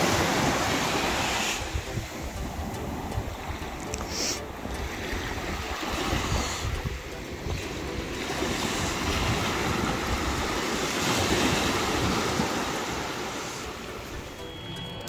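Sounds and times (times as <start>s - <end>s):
surf waves washing on sand: 0.0s - 14.4s
wind buffeting microphone: 0.0s - 14.4s.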